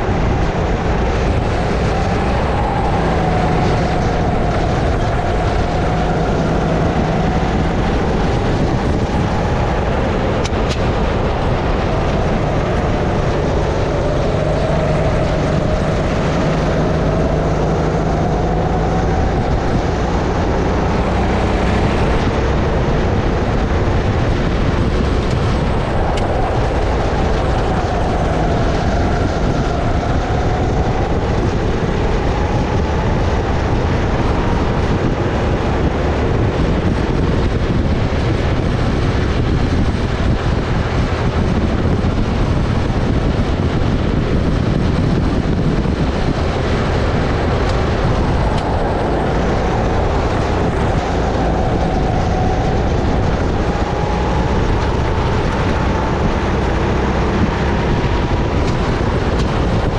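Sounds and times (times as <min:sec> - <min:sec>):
kart engine revving: 0:00.0 - 0:59.9
steady rush of noise: 0:00.0 - 0:59.9.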